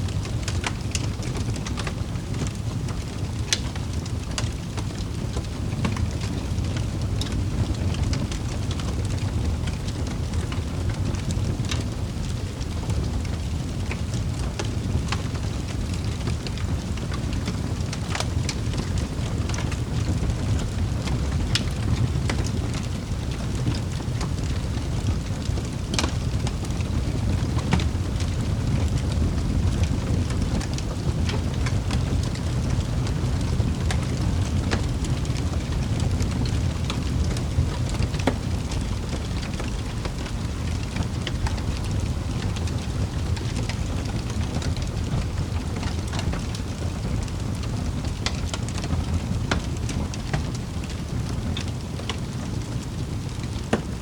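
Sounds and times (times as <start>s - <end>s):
fire crackling and popping: 0.0s - 54.0s
flames rumbling: 0.0s - 54.0s.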